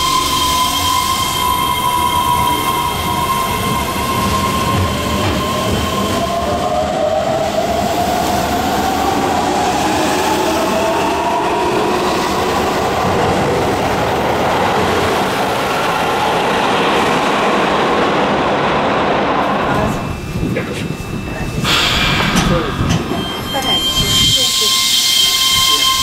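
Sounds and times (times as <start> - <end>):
train inverter whine rising: 0.0 - 26.0
train running noise: 0.0 - 26.0.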